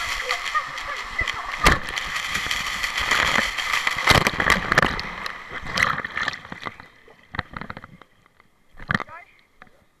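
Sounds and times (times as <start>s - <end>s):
rider plunging into pool: 0.0s - 8.0s
water rushing and splashing: 0.0s - 9.8s
crackles and knocks in slide tube: 1.2s - 9.7s.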